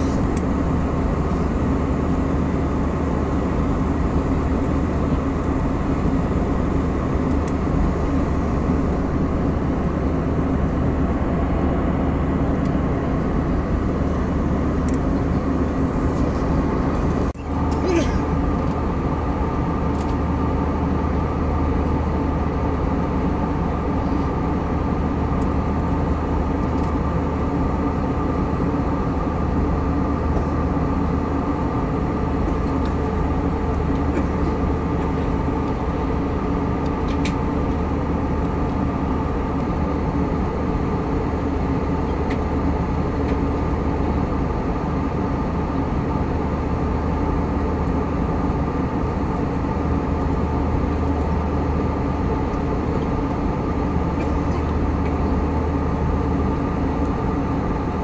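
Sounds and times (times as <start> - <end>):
airliner cabin engine drone: 0.0 - 58.0
constant low hum: 0.0 - 58.0.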